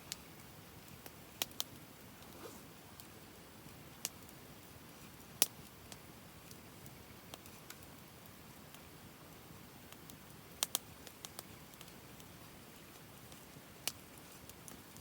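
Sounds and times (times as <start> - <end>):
faint steady hiss: 0.0 - 15.0
wood fire crackling: 0.0 - 15.0.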